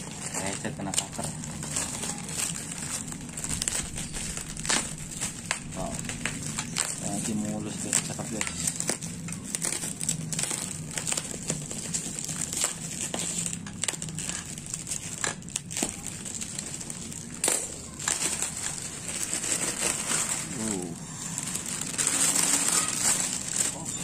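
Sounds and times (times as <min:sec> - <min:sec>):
bubble wrap crinkling: 0:00.0 - 0:24.0
knife slitting bubble wrap: 0:00.0 - 0:24.0.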